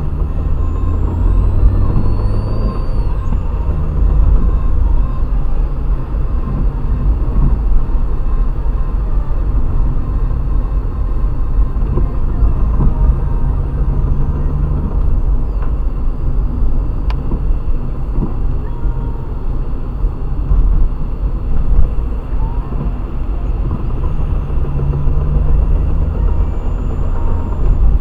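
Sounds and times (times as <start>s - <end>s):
car running and road rumble: 0.0s - 28.0s.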